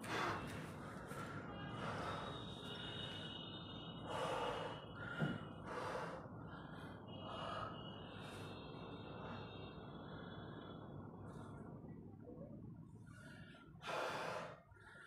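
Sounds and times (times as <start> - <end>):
man breathing hard: 0.0 - 11.8, 13.0 - 15.0.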